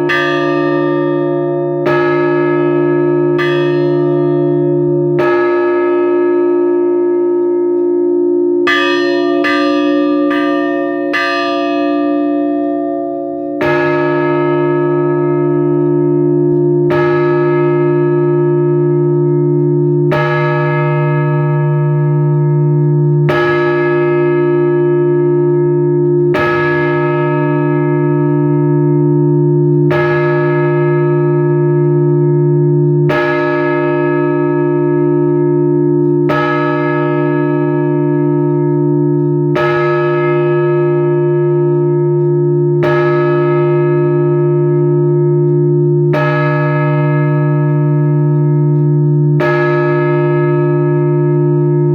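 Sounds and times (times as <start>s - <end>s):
large church bell tolling: 0.0s - 51.9s.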